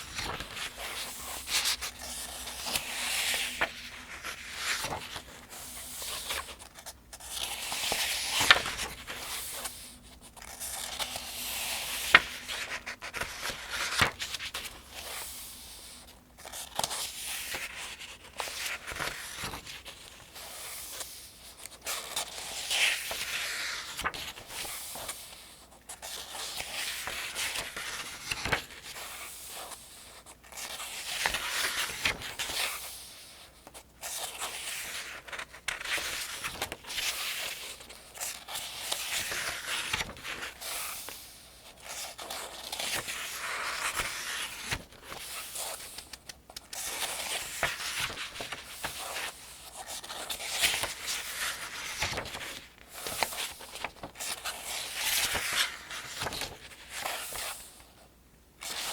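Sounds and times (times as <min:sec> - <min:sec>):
book pages turning: 0:00.0 - 0:57.9.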